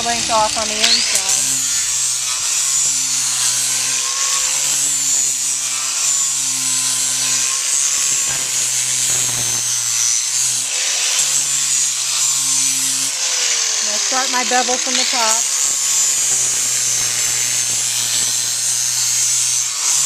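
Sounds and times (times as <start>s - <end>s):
power grinder rasping on hoof: 0.0s - 20.0s.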